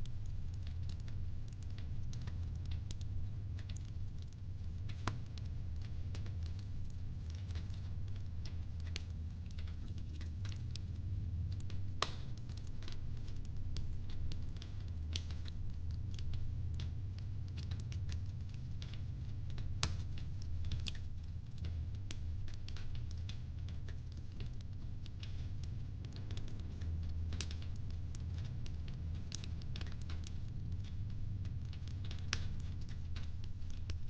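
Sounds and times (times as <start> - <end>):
fireplace crackling and popping: 0.0 - 34.0.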